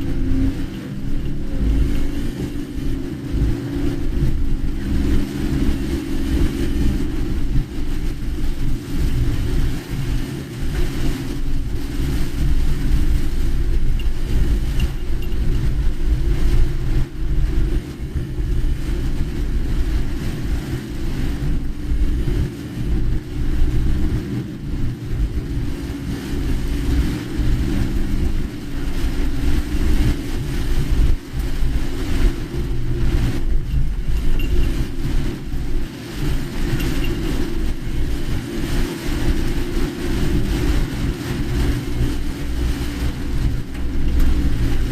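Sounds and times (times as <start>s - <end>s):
hiss of rain and spray: 0.0s - 44.9s
road and engine rumble: 0.0s - 44.9s.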